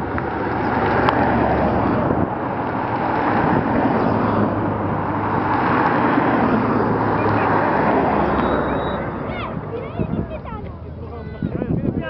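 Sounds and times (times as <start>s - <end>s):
cars driving slowly past: 0.0s - 12.0s.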